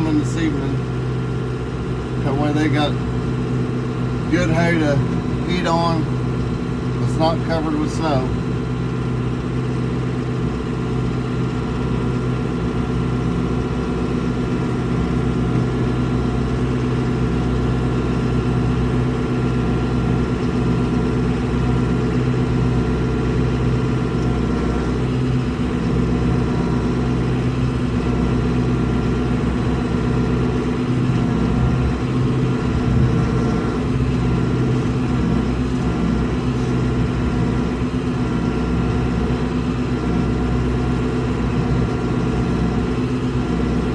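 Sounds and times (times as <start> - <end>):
vehicle engine running steadily: 0.0 - 43.9.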